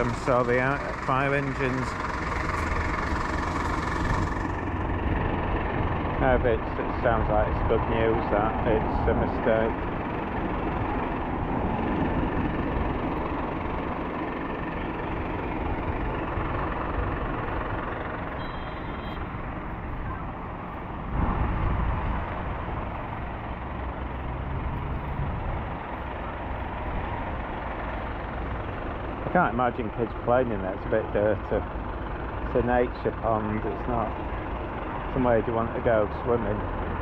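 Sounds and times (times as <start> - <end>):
fire engine idling: 0.0 - 21.2, 22.2 - 37.0.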